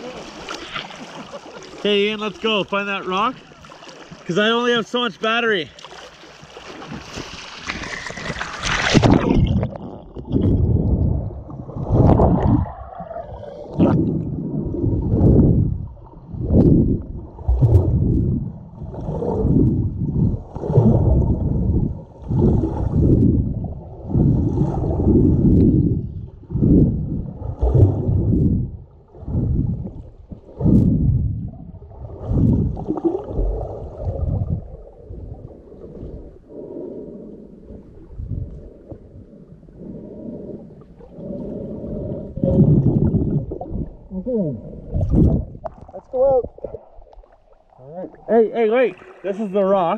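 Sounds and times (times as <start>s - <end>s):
water splashing: 0.0s - 25.9s, 26.5s - 36.4s, 37.6s - 49.9s
muffled underwater rumble: 8.3s - 49.2s.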